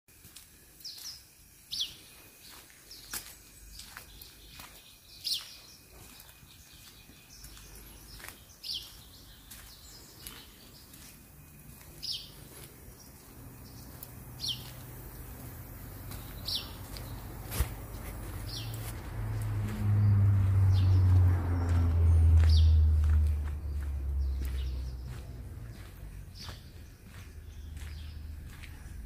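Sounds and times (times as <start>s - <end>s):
faint outdoor background: 0.1s - 29.0s.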